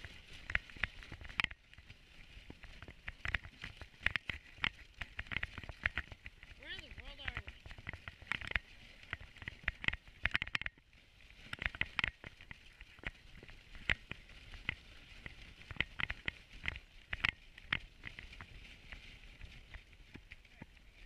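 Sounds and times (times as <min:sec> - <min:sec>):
sled frame creaking and knocking: 0:00.0 - 0:01.6, 0:02.4 - 0:10.8, 0:11.5 - 0:20.7.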